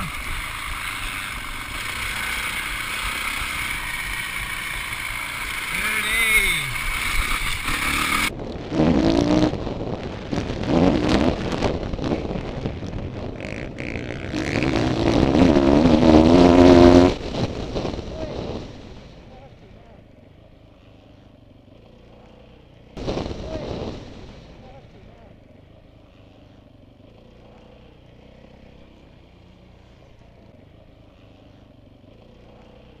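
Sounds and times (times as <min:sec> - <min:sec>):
motocross bike engine revving: 0:00.0 - 0:33.0.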